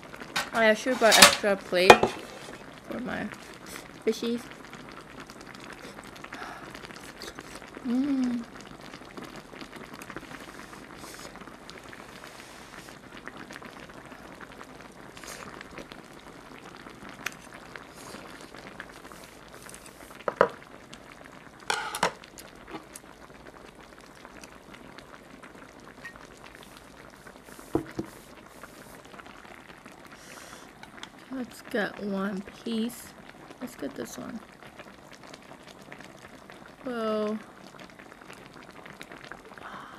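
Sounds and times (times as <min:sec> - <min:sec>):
stew bubbling in a pot: 0:00.0 - 0:39.9.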